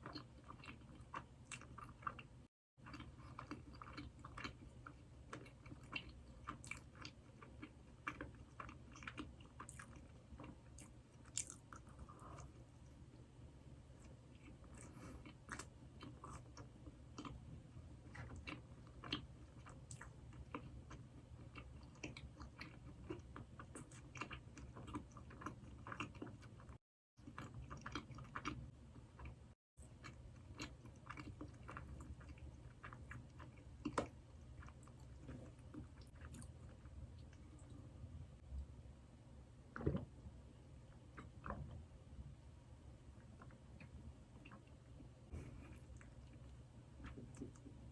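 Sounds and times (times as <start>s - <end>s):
person chewing doughnuts: 0.0s - 13.0s, 14.0s - 37.9s, 43.2s - 47.9s.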